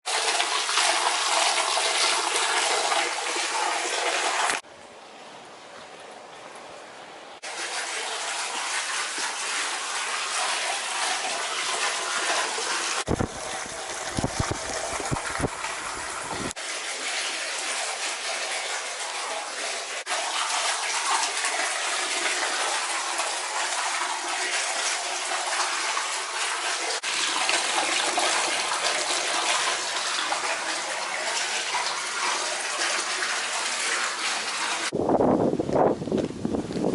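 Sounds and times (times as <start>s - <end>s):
spring water gushing and splashing: 0.0s - 4.7s, 7.4s - 35.0s.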